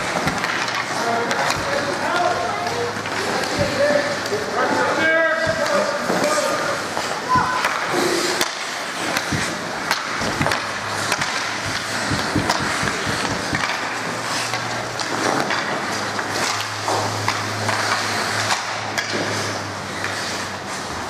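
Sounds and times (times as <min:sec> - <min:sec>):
hockey sticks clacking: 0:00.0 - 0:21.0
skates scraping ice: 0:00.0 - 0:21.0.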